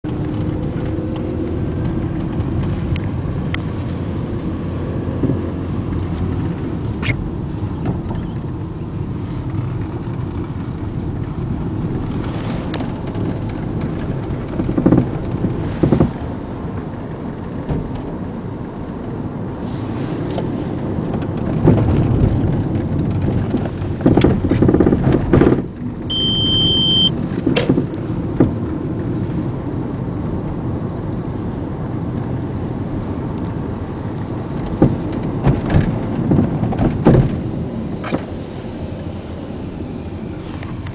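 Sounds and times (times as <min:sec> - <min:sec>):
clunks and rattles over bumps: 0:00.0 - 0:19.4, 0:20.2 - 0:26.2, 0:27.2 - 0:30.5, 0:33.2 - 0:39.6
car road rumble: 0:00.0 - 0:40.9.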